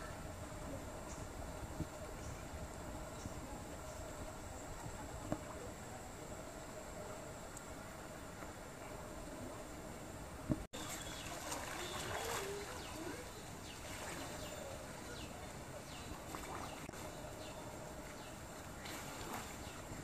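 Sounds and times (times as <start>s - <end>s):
distant voices of swimmers: 0.0s - 20.0s.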